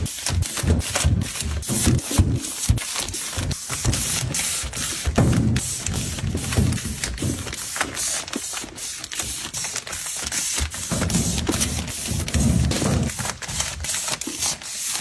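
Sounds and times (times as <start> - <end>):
plastic packs crinkling: 0.0 - 15.0.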